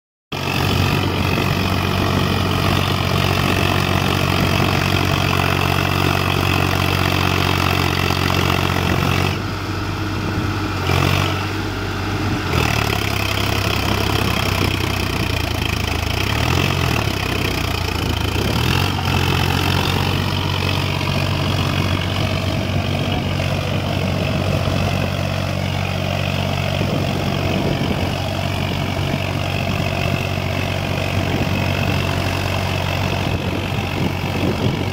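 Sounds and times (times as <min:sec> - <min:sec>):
tractor diesel engine under load: 0:00.3 - 0:34.9.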